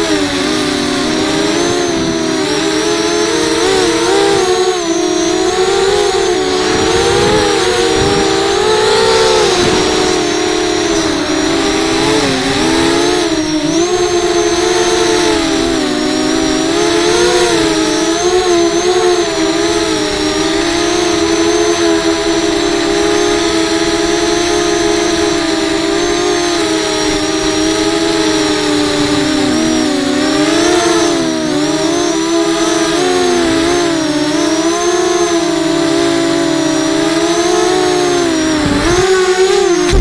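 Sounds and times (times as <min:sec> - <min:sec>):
quadcopter motors whining: 0:00.0 - 0:40.0.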